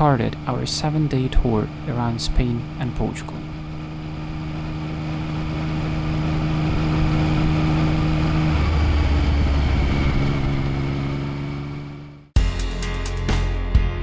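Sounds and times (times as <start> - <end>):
engine droning: 0.0 - 12.4.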